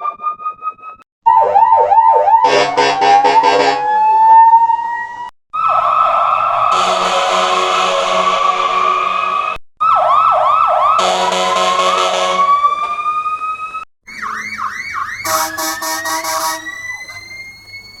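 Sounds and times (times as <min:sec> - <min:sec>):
cartoon fire truck siren: 0:00.0 - 0:18.0.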